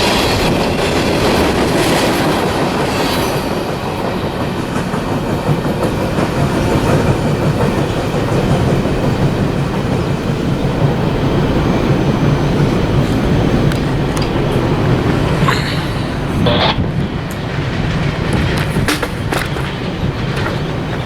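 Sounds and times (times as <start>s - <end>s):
freight train wheels clattering: 0.0s - 21.0s.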